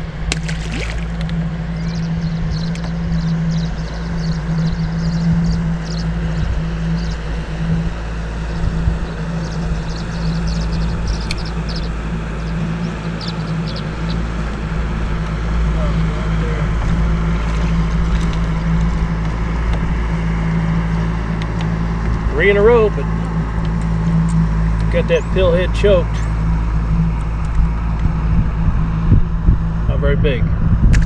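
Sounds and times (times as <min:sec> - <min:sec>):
low electric motor hum: 0:00.0 - 0:31.0
wind rumble on microphone: 0:00.0 - 0:31.0.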